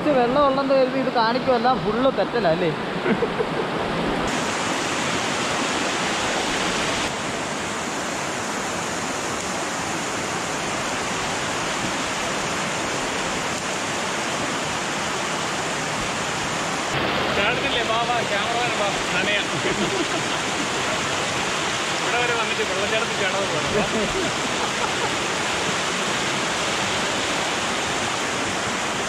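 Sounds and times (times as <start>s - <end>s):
stream water rushing over rocks: 0.0s - 29.0s.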